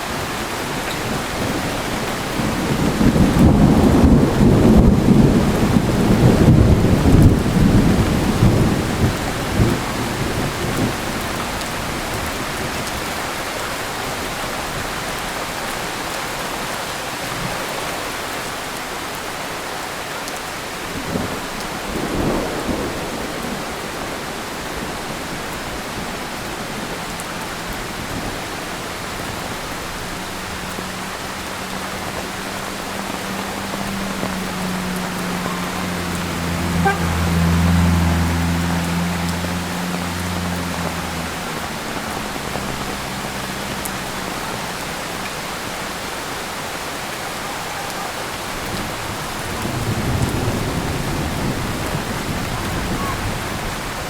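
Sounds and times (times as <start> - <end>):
thunder rumbling: 0.0 - 13.2, 20.9 - 54.0
heavy rain falling: 0.0 - 54.0.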